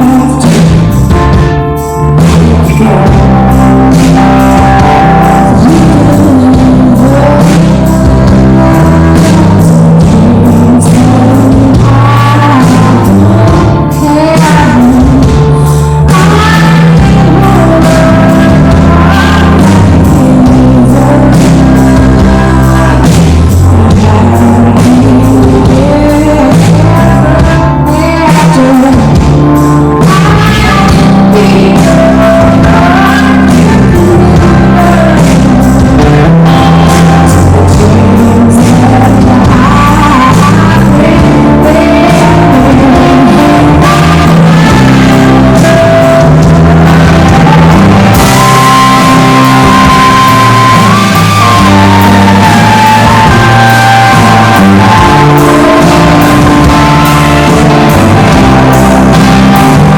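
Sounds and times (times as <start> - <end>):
bass guitar: 0.0 - 59.9
electric guitar: 0.0 - 59.9
person singing: 0.0 - 59.9.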